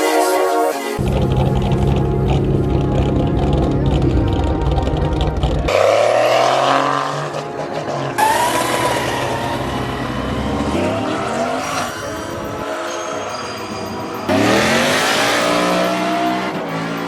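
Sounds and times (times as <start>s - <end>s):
car engines revving: 1.0s - 17.0s.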